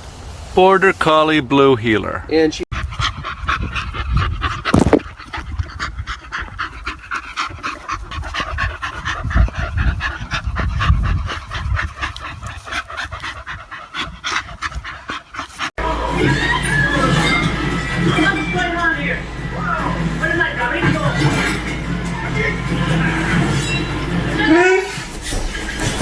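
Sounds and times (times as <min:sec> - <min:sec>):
dog panting rapidly: 0:02.7 - 0:26.0.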